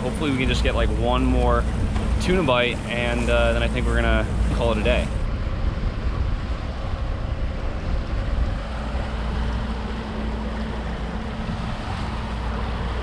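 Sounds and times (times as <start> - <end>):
boat outboard engines rumbling: 0.0 - 13.0
water noise: 0.0 - 13.0
wind on microphone: 0.0 - 13.0.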